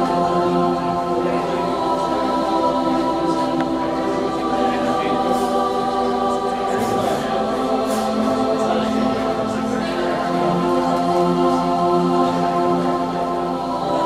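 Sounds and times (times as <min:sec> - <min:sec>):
choir-like voices holding chords: 0:00.0 - 0:14.0.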